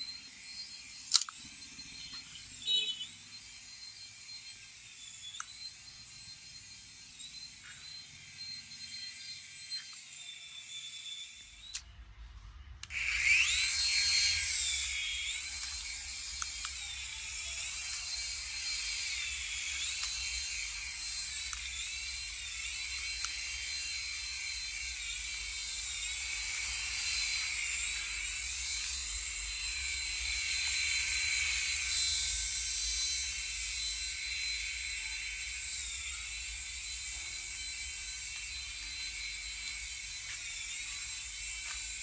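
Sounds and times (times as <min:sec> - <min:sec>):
toy helicopter motor whine: 0:00.0 - 0:42.0.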